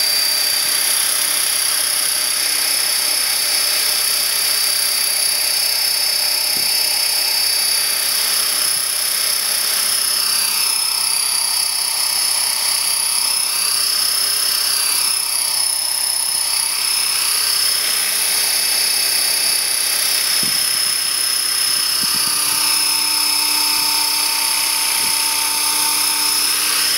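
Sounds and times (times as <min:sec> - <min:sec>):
rc helicopter motor whine: 0:00.0 - 0:26.9.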